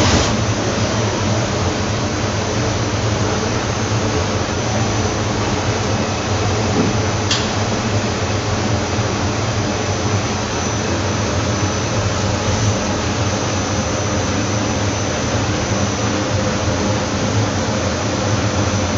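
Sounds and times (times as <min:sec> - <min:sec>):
machine humming with high whine: 0:00.0 - 0:18.9.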